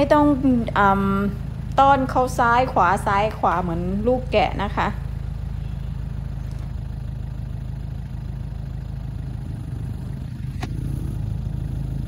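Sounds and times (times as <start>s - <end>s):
farm vehicle engine running: 0.0s - 12.0s.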